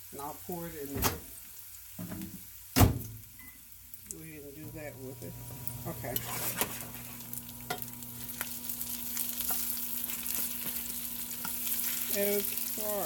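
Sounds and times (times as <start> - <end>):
onions sizzling in a skillet: 0.0 - 13.0.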